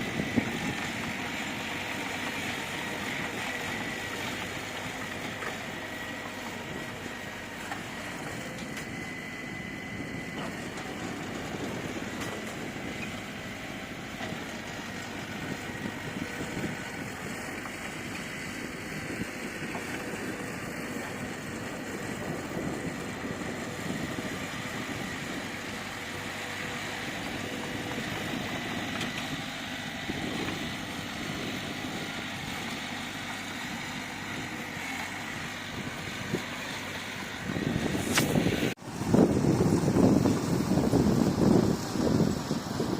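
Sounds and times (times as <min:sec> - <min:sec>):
heavy machinery engine running: 0:00.0 - 0:42.9.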